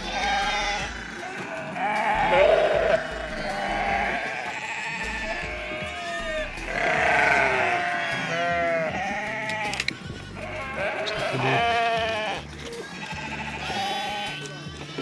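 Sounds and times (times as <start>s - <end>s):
goats bleating: 0.0s - 15.0s.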